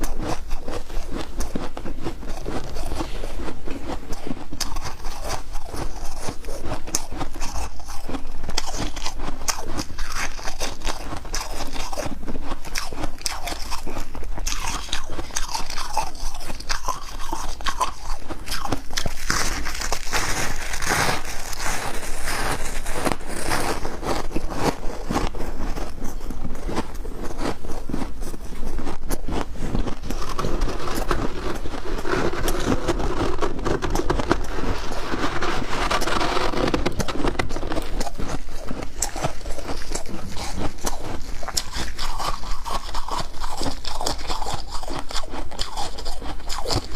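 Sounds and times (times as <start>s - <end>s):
person chewing ice: 0.0s - 46.9s.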